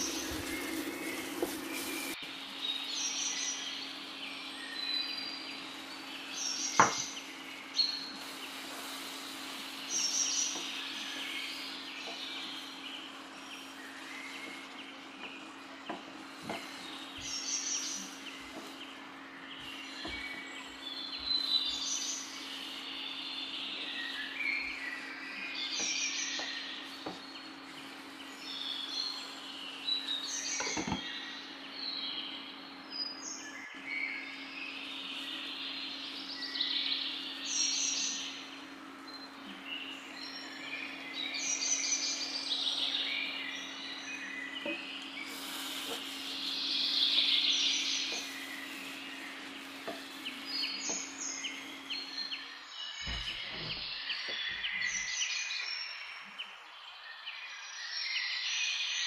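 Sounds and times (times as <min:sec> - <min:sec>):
steady low hum: 0:00.0 - 0:54.8
birds chirping: 0:00.0 - 0:59.0.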